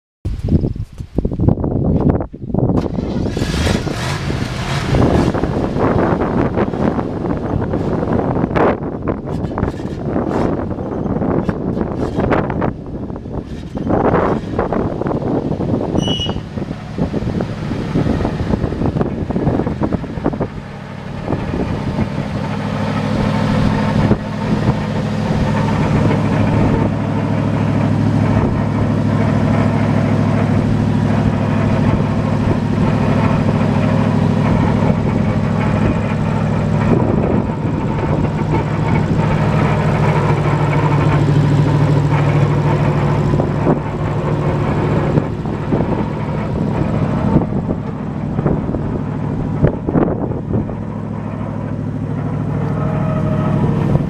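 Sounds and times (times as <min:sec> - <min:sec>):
truck engine running: 0:00.3 - 0:54.0.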